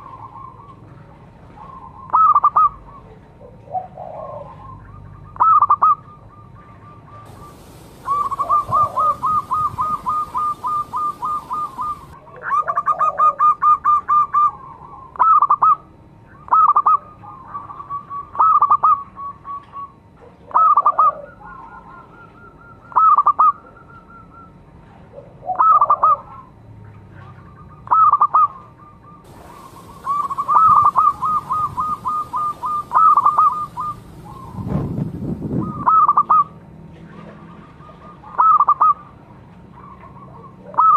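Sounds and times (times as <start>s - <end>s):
dove cooing: 1.5s - 15.8s, 16.4s - 23.8s, 25.1s - 26.6s, 27.3s - 36.5s, 39.8s - 40.9s.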